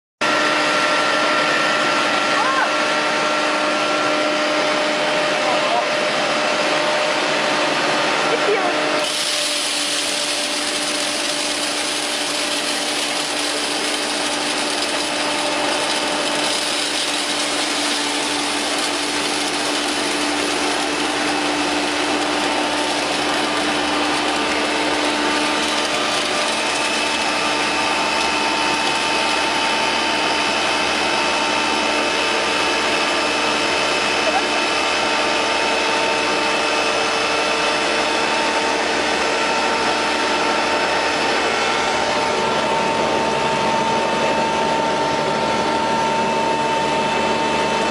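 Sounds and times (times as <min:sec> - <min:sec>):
corn grinder motor whirring: 0:00.2 - 0:47.9.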